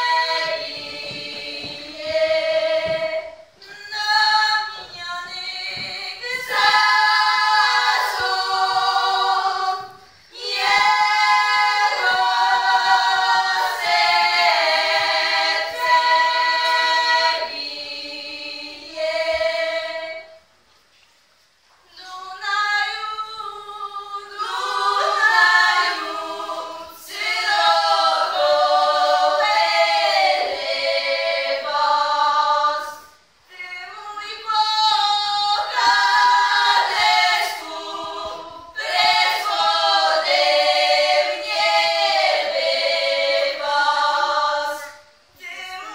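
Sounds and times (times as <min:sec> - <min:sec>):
women's vocal group singing folk song: 0:00.0 - 0:20.5, 0:21.9 - 0:45.9.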